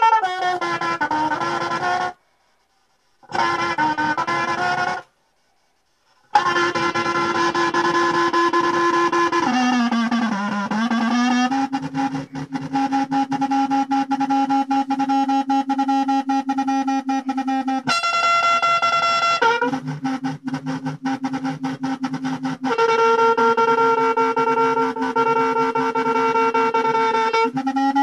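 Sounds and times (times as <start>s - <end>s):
processed electric trumpet notes: 0.0s - 2.2s, 3.2s - 5.1s, 6.2s - 28.0s.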